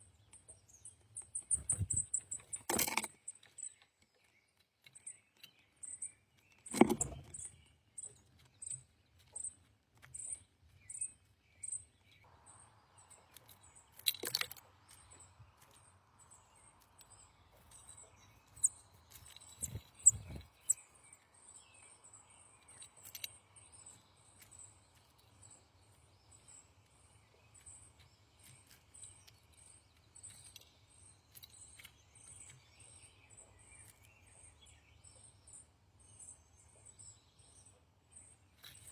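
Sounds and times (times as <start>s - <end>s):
small bird chip notes: 0.1s - 35.6s.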